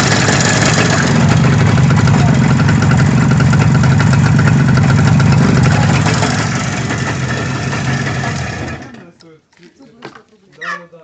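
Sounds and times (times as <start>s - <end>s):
two-stroke motorcycle engine idling: 0.0s - 9.0s.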